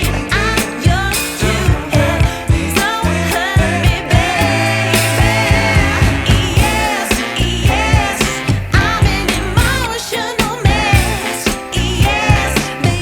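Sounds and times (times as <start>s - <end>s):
pop song with vocals and drums: 0.0s - 13.0s.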